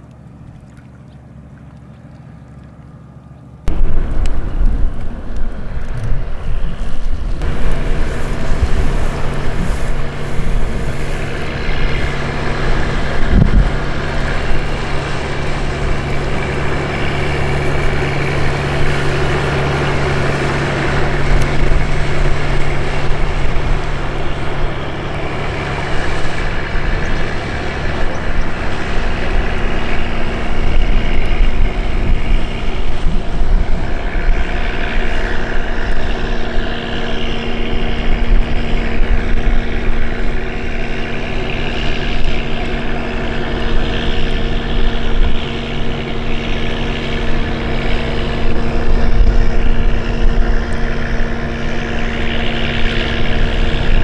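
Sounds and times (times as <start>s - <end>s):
boat diesel engine droning: 0.0s - 54.0s
wind on microphone: 3.7s - 54.0s.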